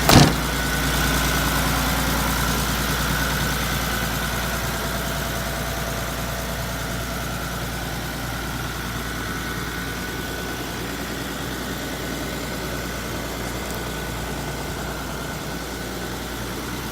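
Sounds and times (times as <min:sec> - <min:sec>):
diesel truck engine idling: 0:00.0 - 0:16.9.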